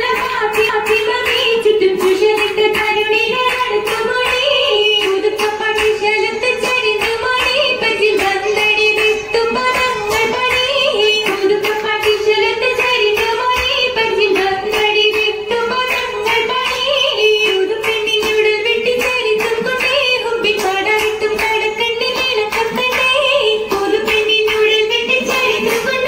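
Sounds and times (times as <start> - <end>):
rhythmic hand claps: 0.0 - 26.0
women singing: 0.0 - 26.0.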